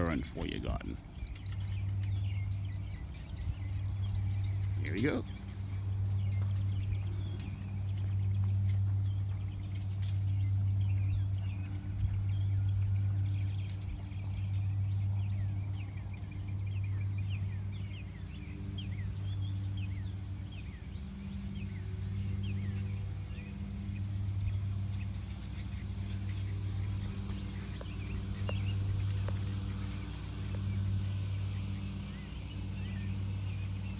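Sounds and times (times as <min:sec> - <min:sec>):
birds chirping: 0:00.0 - 0:33.9
foil crinkling in the wind: 0:00.0 - 0:33.9
steady low hum: 0:00.0 - 0:33.9.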